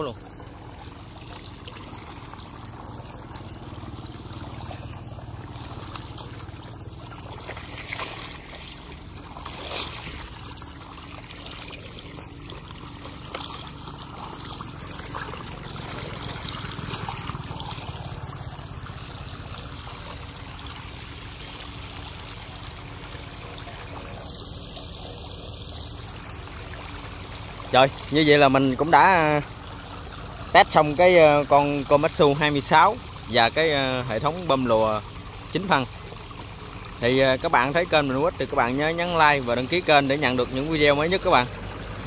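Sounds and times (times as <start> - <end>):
water gushing from pipe: 0.0 - 42.0.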